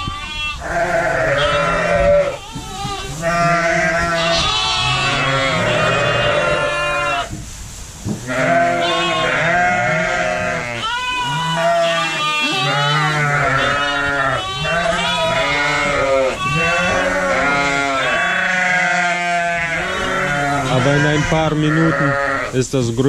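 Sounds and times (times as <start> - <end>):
sheep and lambs bleating: 0.0 - 7.4, 8.2 - 22.6.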